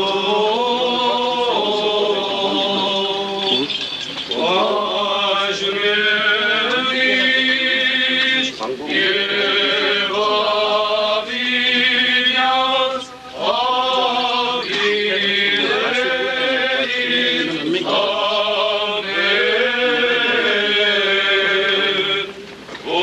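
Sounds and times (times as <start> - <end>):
men chanting a hymn: 0.0 - 23.0.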